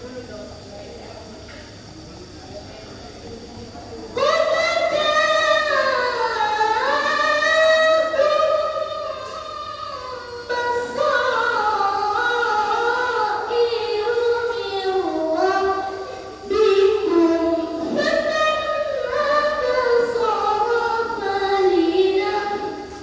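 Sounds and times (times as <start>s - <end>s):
child reciting melodically: 4.1s - 23.0s.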